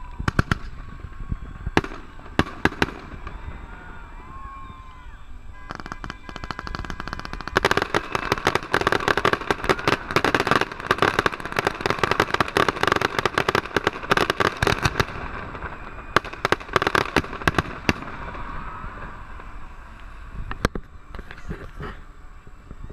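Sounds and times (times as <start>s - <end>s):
fireworks bangs and crackles: 0.0s - 22.9s.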